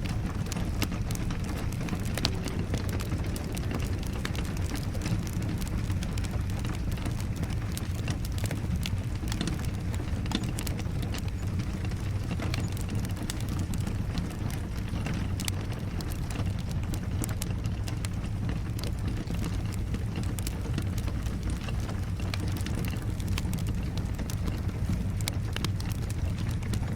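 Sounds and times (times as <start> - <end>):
rain falling: 0.0 - 26.9
wood fire crackling: 0.0 - 26.9.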